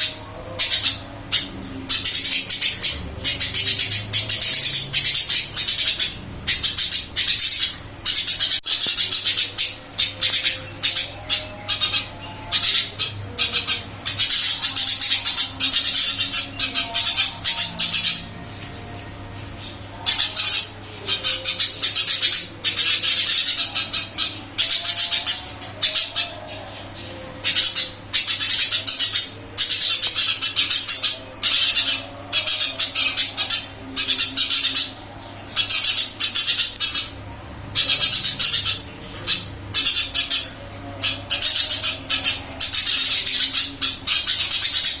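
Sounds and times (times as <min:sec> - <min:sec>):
sparrow chirping: 0:00.0 - 0:45.0
steady low hum: 0:00.0 - 0:45.0.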